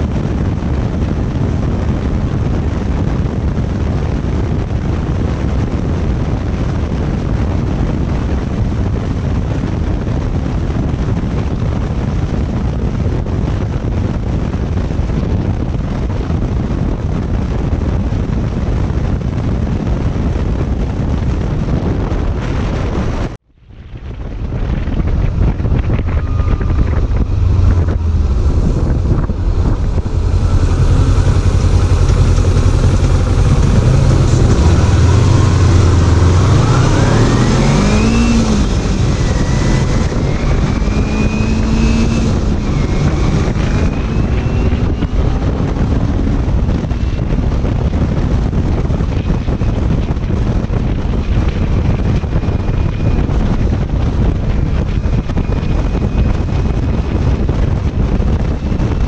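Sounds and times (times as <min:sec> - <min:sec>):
motorcycle engine running: 0:00.0 - 0:59.0
wind rush on microphone: 0:00.0 - 0:59.0.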